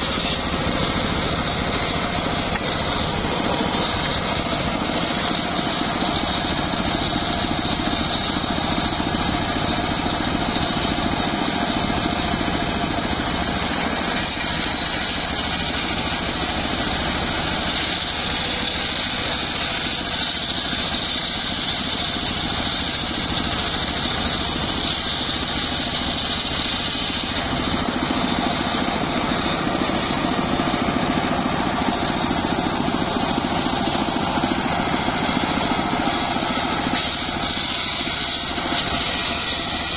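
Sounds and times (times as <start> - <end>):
circular saw ripping wood: 0.0 - 39.9.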